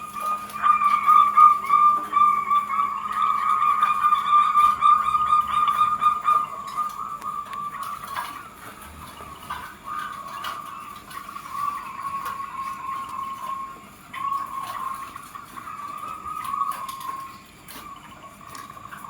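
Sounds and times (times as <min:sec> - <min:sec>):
doves cooing: 0:00.0 - 0:19.0.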